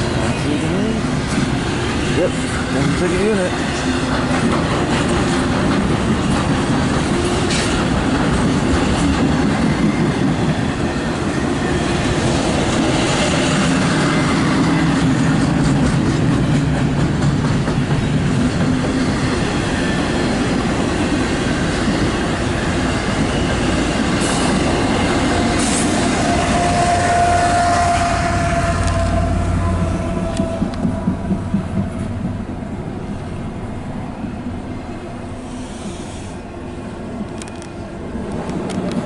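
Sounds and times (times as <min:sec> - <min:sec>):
train wheels clattering over rails: 0:00.0 - 0:29.0, 0:29.6 - 0:33.2
train cars clanking: 0:00.0 - 0:34.6.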